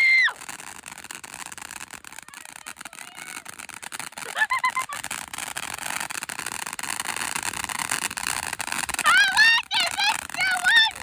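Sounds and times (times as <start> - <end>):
distant fireworks crackling: 0.0 - 11.0.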